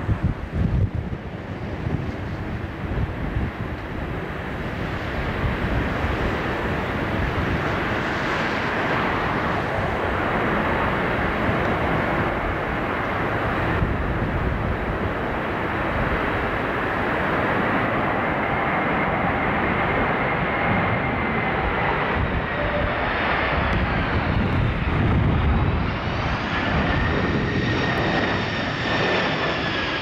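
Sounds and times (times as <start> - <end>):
jet engines roaring: 0.0 - 30.0
wind rumble on microphone: 0.0 - 30.0.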